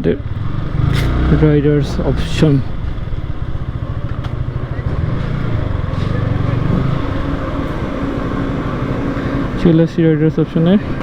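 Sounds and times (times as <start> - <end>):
motorcycle engine pulsing: 0.0 - 11.0.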